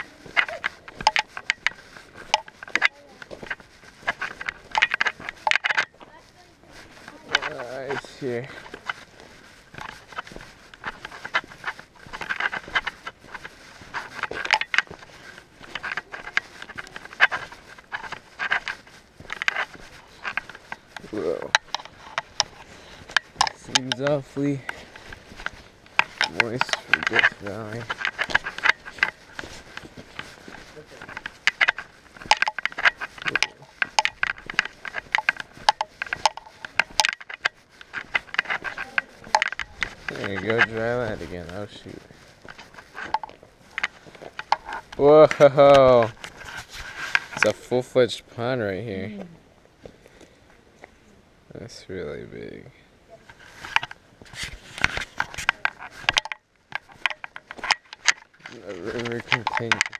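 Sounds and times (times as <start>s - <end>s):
footsteps crunching on ice: 0.0s - 48.8s, 53.4s - 59.9s.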